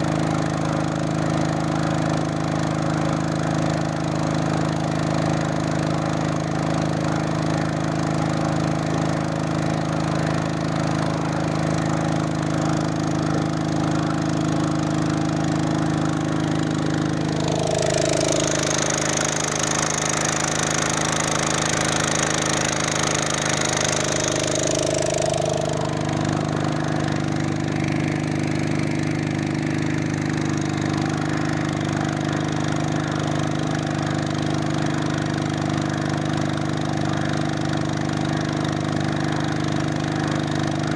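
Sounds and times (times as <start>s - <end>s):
boat engine running steadily: 0.0s - 40.9s
engine hiss and high whine: 0.2s - 40.9s.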